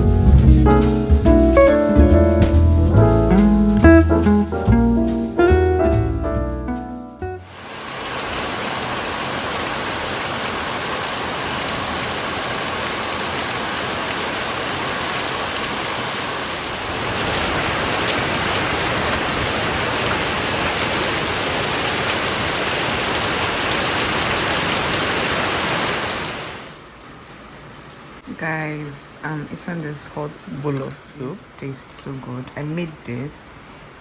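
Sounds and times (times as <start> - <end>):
heavy rain falling: 0.0 - 6.4, 7.4 - 31.0.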